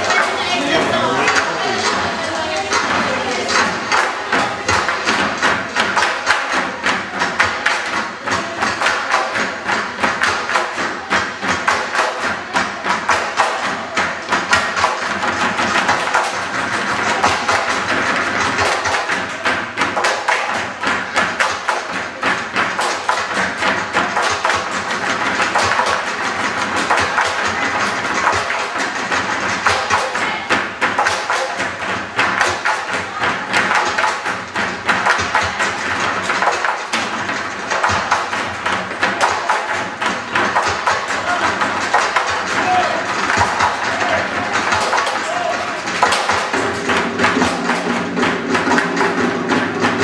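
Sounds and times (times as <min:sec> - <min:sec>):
music: 0:01.8 - 0:50.0
bamboo poles knocking on wooden floor: 0:02.7 - 0:50.0.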